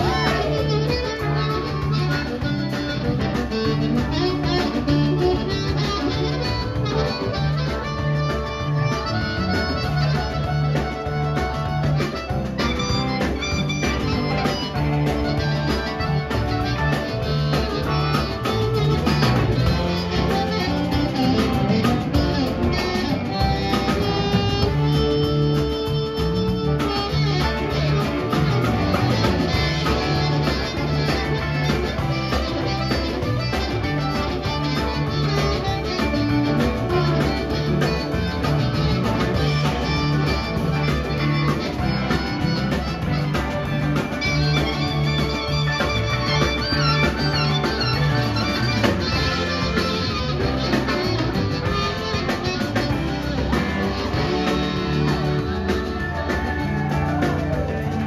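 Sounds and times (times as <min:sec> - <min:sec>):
bass guitar: 0:00.0 - 0:58.0
drums: 0:00.0 - 0:58.0
electric guitars: 0:00.0 - 0:58.0
harmonica: 0:00.0 - 0:58.0.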